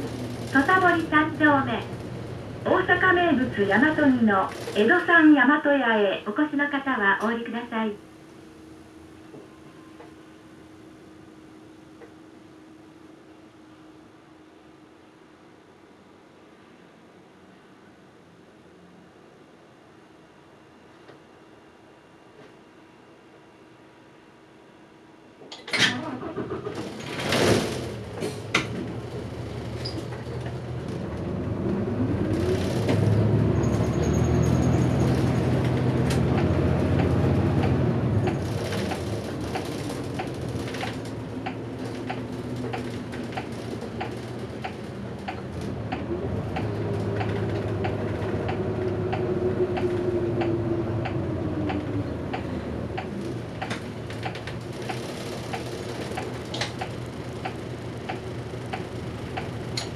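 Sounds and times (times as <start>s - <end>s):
bus diesel engine: 0.0s - 14.6s, 25.6s - 59.9s.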